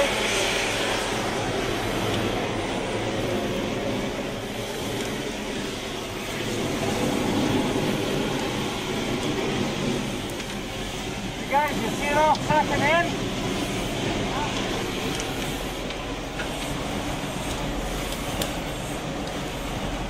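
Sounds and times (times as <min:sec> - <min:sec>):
fire rushing: 0:00.0 - 0:20.0.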